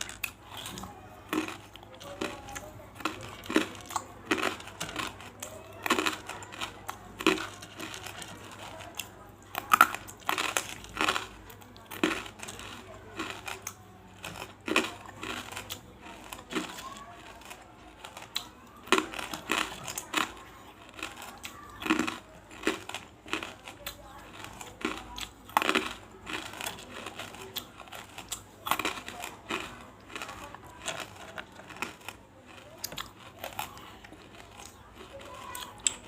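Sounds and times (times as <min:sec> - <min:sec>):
mouth crunching brittle pieces: 0:00.0 - 0:36.0.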